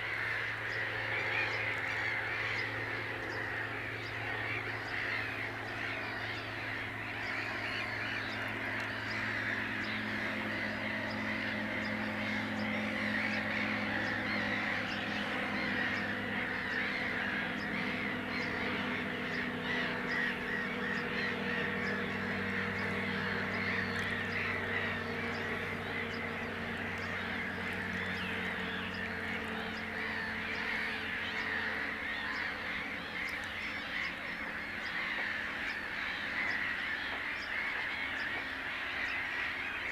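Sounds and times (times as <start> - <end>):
low steady hum: 0.0 - 39.1
birds chorus: 0.0 - 39.9.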